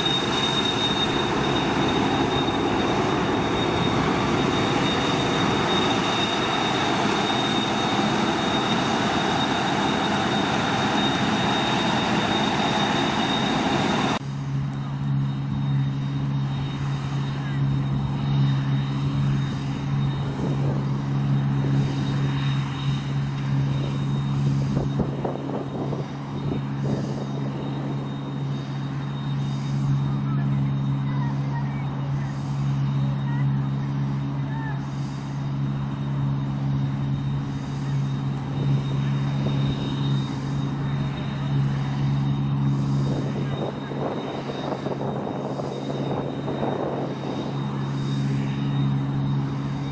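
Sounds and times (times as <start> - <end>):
combine harvester engine drone: 0.0 - 49.9
high whine: 0.0 - 49.9.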